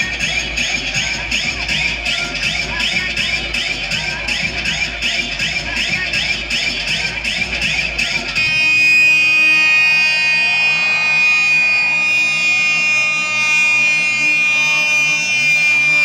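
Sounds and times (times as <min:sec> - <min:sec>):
loud electronic music: 0:00.0 - 0:16.0.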